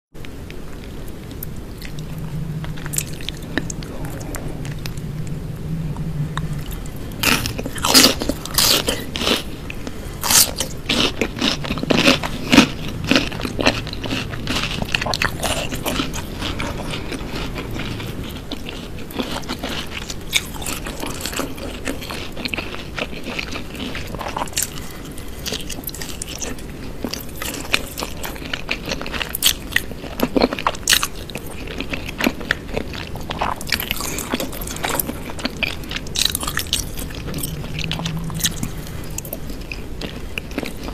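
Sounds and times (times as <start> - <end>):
wet chewing: 0.7 - 5.4, 6.0 - 40.9.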